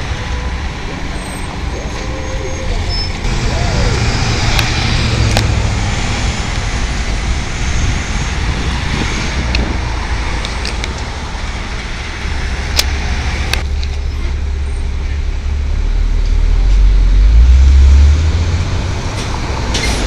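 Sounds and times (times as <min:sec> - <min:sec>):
cars passing close by: 0:00.0 - 0:13.8, 0:16.9 - 0:20.0
bus driving off: 0:00.0 - 0:20.0.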